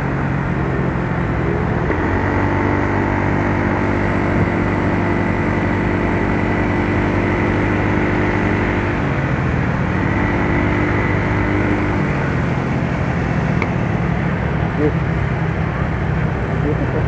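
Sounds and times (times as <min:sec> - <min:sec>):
scooter engine running: 0:00.0 - 0:17.0
wind and road noise: 0:00.0 - 0:17.0.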